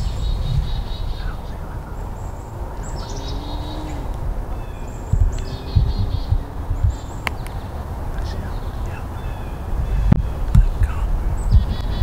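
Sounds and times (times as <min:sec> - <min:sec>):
low thumps: 0:00.0 - 0:12.0
songbirds trilling: 0:00.0 - 0:12.0.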